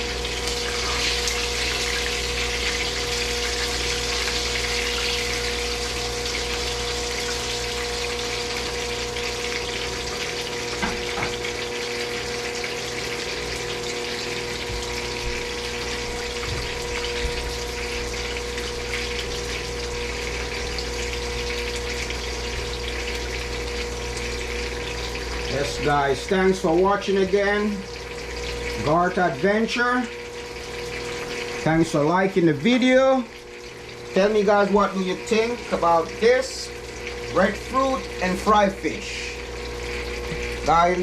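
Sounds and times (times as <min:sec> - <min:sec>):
fish frying in hot oil: 0:00.0 - 0:41.0
steady hum: 0:00.0 - 0:41.0.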